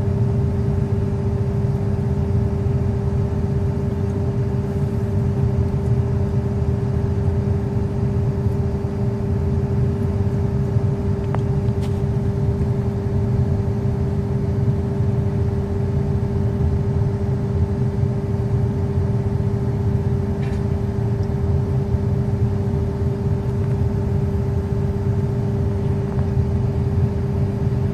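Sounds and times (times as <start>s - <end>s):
steady whine: 0.0s - 27.9s.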